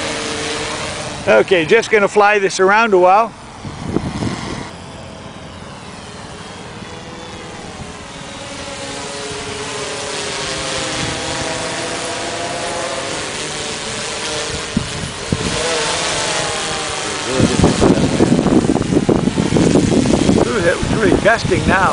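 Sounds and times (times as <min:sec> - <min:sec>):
drone propellers whining: 0:00.0 - 0:21.9
wind buffeting microphone: 0:00.0 - 0:21.9.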